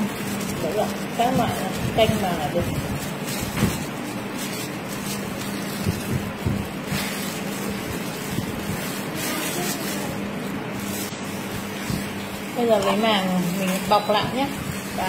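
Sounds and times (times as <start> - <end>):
background hum and hiss: 0.0 - 15.0
gloved hands rustling: 0.0 - 15.0.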